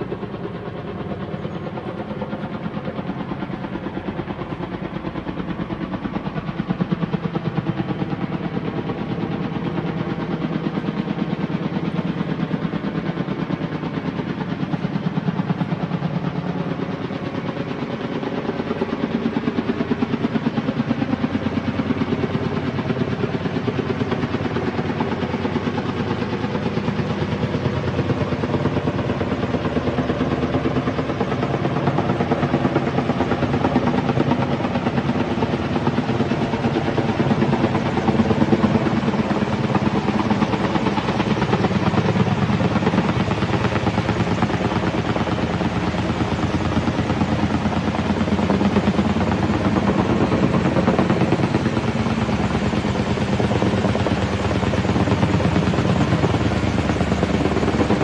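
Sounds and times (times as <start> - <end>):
helicopter engine tone: 0.0 - 58.0
helicopter rotor beating: 0.0 - 58.0.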